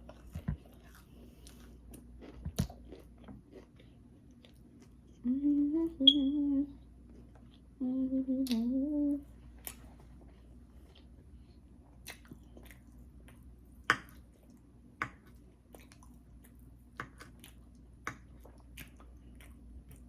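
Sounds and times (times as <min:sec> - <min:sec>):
chewing soft food: 0:00.0 - 0:05.7, 0:06.7 - 0:08.7, 0:09.3 - 0:20.0.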